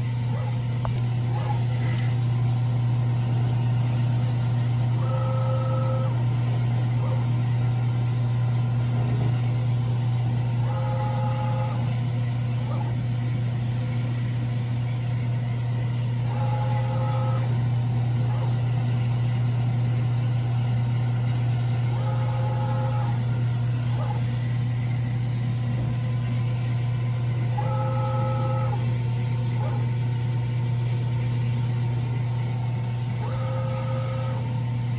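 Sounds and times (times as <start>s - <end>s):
low machine hum: 0.0s - 34.9s.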